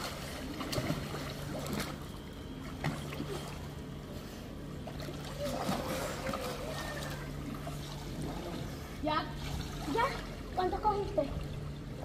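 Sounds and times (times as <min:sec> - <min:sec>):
small water splashes: 0:00.0 - 0:03.9, 0:04.8 - 0:12.0
pool water lapping and sloshing: 0:00.0 - 0:12.0
steady low hum: 0:00.0 - 0:12.0.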